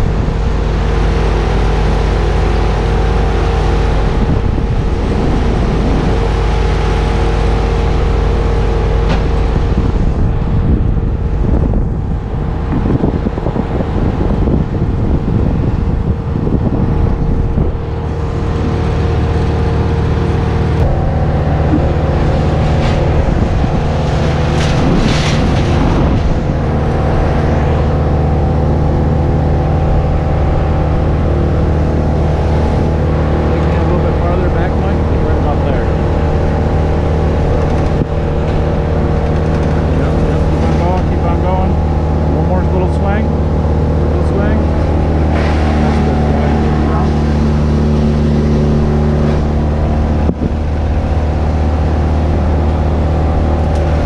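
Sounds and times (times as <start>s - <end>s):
large engine running: 0.0s - 54.0s.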